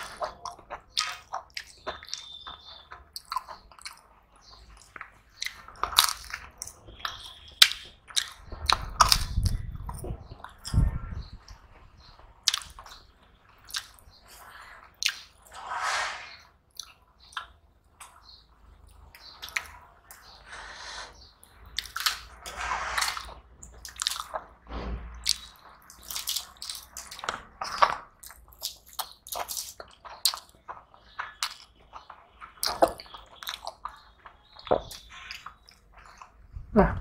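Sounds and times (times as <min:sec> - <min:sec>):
people chewing: 0:00.0 - 0:15.6, 0:16.6 - 0:24.6, 0:25.2 - 0:37.0.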